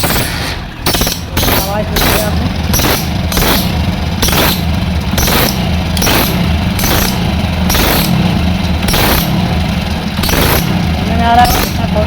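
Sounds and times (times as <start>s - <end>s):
motorcycle engine idling: 0.0s - 12.0s
sharp puffing from engine: 0.0s - 12.0s.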